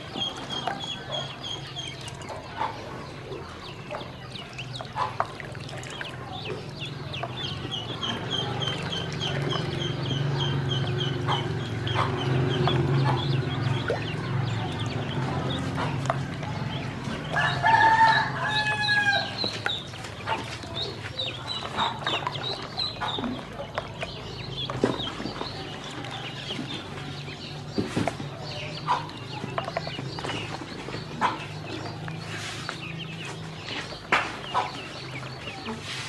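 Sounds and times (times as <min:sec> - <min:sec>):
ducklings peeping: 0:00.0 - 0:36.0
splashing in water: 0:01.9 - 0:36.0.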